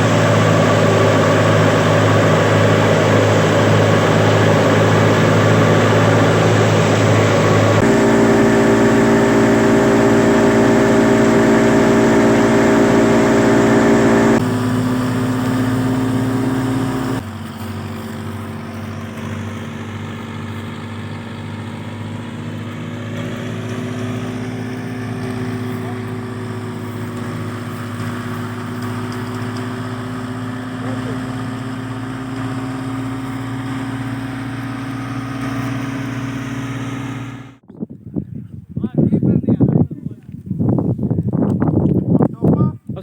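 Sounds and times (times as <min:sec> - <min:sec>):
thresher machinery hum: 0:00.0 - 0:37.6.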